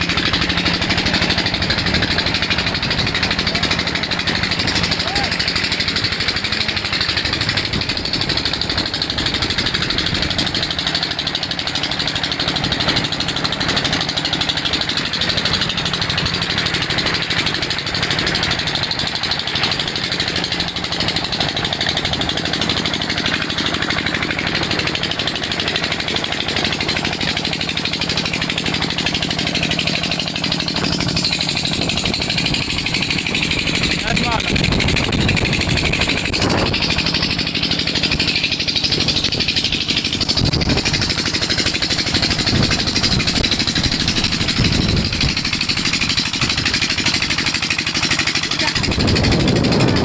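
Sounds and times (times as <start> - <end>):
engine chugging under load: 0.0 - 50.0.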